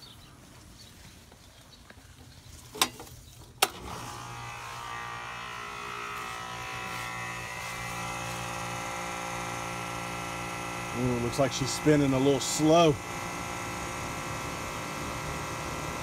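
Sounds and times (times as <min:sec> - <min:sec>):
condensing unit humming: 0:02.7 - 0:16.0.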